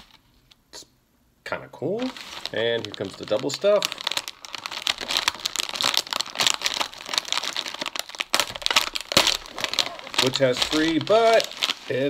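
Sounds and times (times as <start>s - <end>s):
plastic wrapper crinkling: 0.0s - 0.2s, 1.9s - 12.0s.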